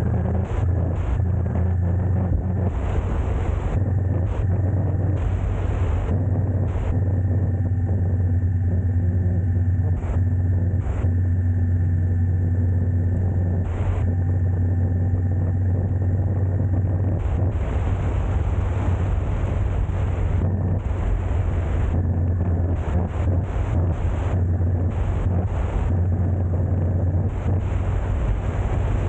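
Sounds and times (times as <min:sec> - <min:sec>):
vehicle engine and road drone: 0:00.0 - 0:29.0.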